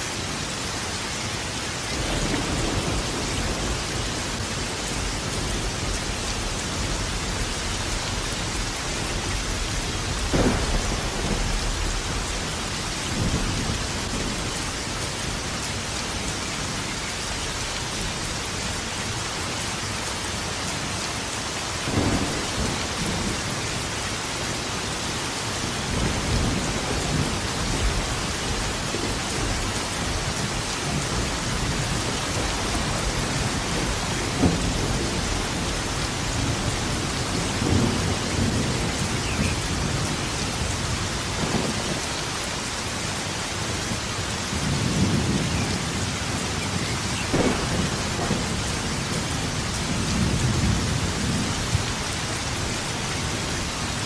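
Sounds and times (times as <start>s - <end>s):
heavy rain falling: 0.0s - 54.0s
thunder rumbling: 1.9s - 16.7s, 21.8s - 24.7s, 25.6s - 42.9s, 43.6s - 54.0s.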